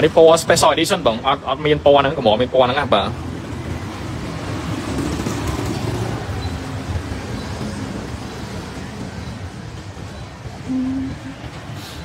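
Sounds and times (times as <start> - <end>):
vehicle rumble: 1.4 - 12.0.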